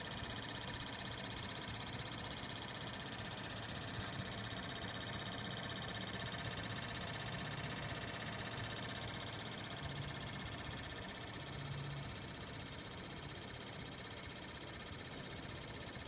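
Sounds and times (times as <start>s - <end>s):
climate control fan whir: 0.0s - 16.0s
fast continuous clicking: 0.1s - 16.0s.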